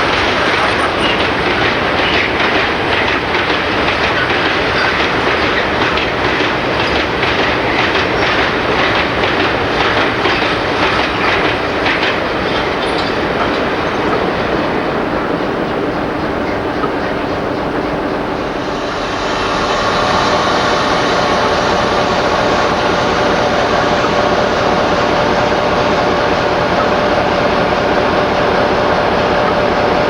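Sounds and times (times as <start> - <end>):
train wheels clicking over rails: 0.0 - 30.0.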